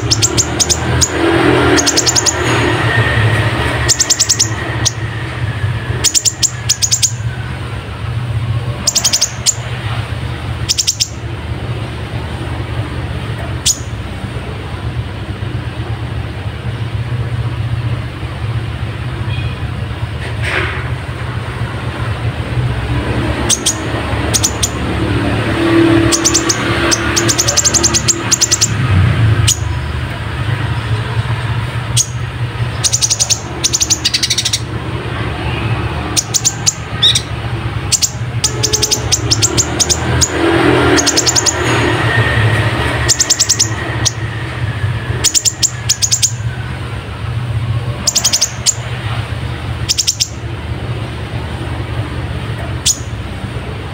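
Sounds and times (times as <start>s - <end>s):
bird chirping song: 0.0s - 7.8s, 8.6s - 14.1s, 21.7s - 47.0s, 47.8s - 52.0s, 52.6s - 53.3s.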